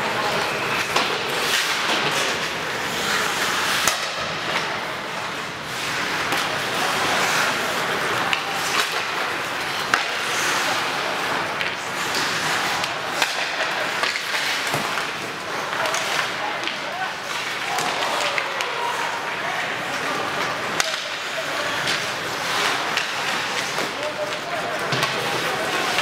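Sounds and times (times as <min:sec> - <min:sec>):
hockey sticks and puck clacking: 0:00.0 - 0:26.0
skates scraping ice: 0:00.0 - 0:26.0.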